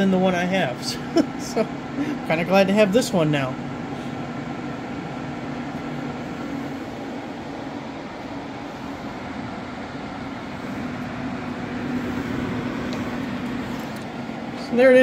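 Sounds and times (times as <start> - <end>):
dehumidifier fan whirring: 0.0 - 15.0.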